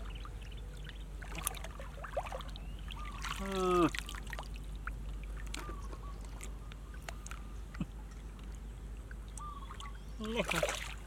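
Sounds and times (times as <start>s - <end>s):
muddy water sloshing and splashing: 0.0s - 11.0s.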